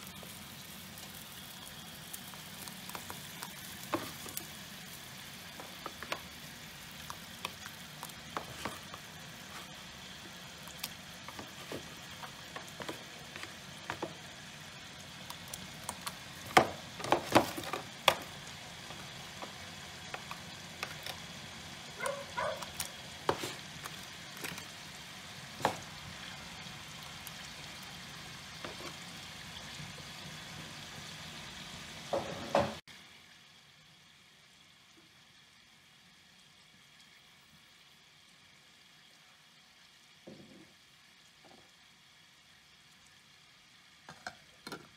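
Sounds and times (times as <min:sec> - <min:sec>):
soup boiling and bubbling: 0:00.0 - 0:44.9.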